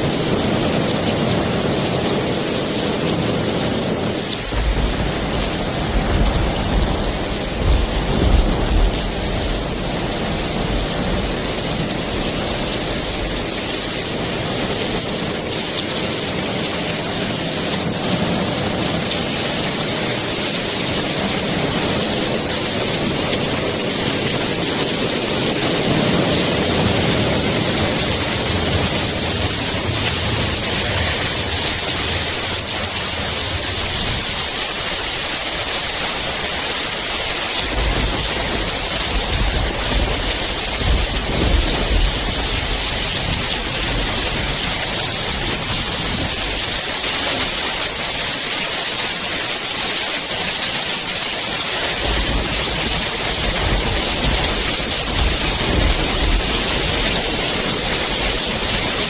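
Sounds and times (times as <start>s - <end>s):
thunder rumbling: 0.0s - 48.0s, 51.7s - 59.0s
steady rain: 0.0s - 59.0s.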